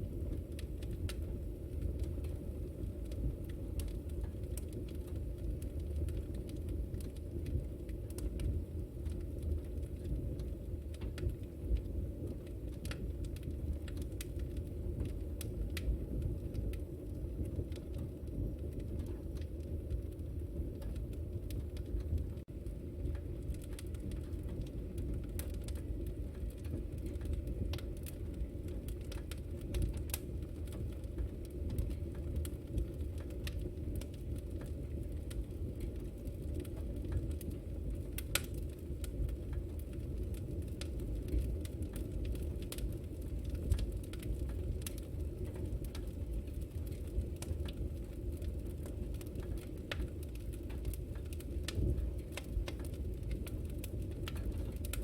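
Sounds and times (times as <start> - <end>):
fire crackling and popping: 0.0 - 55.0
wood fire rumbling: 0.0 - 55.0.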